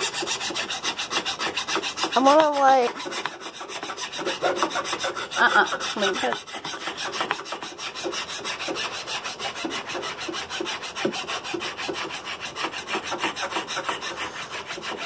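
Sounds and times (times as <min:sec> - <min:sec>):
hand rasp scraping wood: 0:00.0 - 0:15.0.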